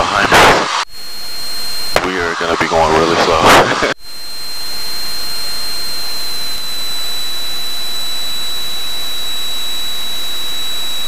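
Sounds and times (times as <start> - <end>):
thin high whine: 0.0 - 11.0.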